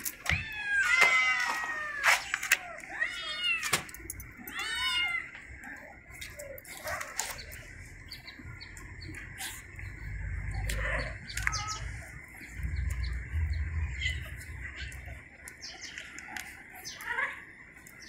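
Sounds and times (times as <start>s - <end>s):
cats chirping: 0.0s - 18.0s.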